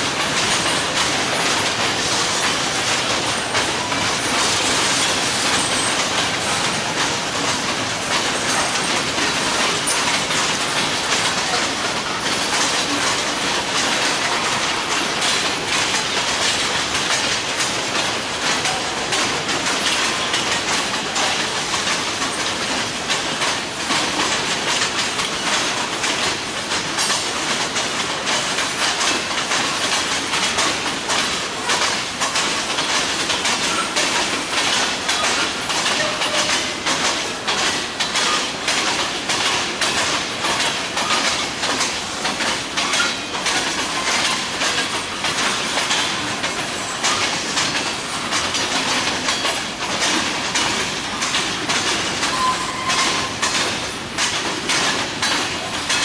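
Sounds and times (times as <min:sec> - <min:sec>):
train rolling rumble: 0:00.0 - 0:56.0
train wheels clicking over rail joints: 0:00.0 - 0:56.0.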